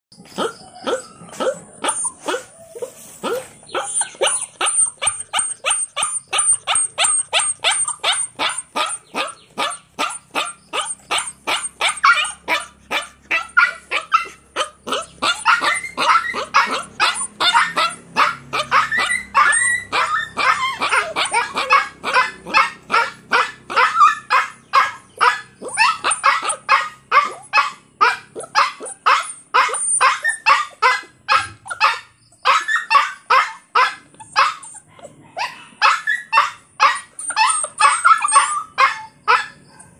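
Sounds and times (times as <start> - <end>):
dog yipping and barking: 0.2 - 39.9.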